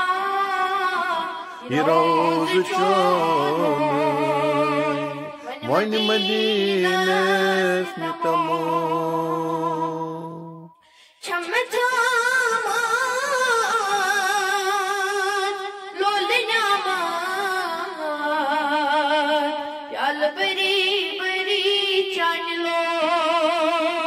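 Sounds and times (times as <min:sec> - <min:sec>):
boy singing unaccompanied: 0:00.0 - 0:10.0, 0:11.2 - 0:24.0.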